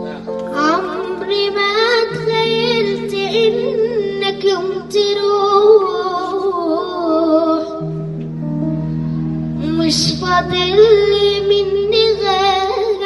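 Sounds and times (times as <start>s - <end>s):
girl singing slow melody: 0.0s - 13.0s
sustained low accompaniment: 0.0s - 13.0s.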